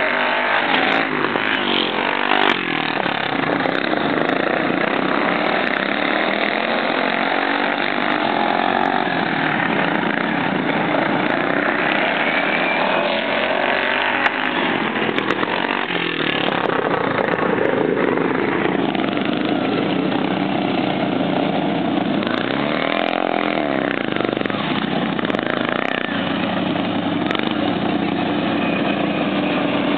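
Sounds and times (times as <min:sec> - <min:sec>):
small engines revving: 0:00.0 - 0:29.9.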